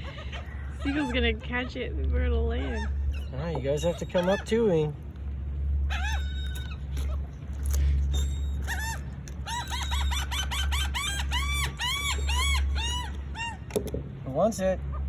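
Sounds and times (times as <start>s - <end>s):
gulls calling: 0.0s - 15.0s
steady low hum: 0.0s - 15.0s.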